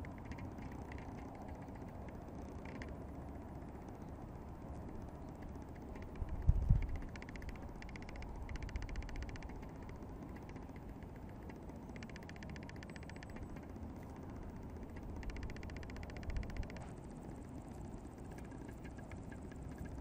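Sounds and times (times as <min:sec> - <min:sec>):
insects chirring: 0:00.0 - 0:20.0
low wind rumble: 0:00.0 - 0:20.0.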